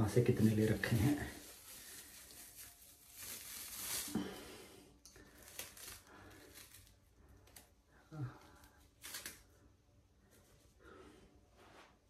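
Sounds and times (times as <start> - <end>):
scratchy stretch: 0.0 - 9.7
bandage rustling: 0.0 - 11.0.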